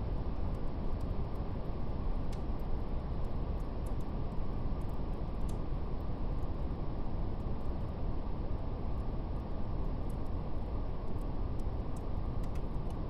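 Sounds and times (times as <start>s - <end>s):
faint fire crackles: 0.0s - 13.0s.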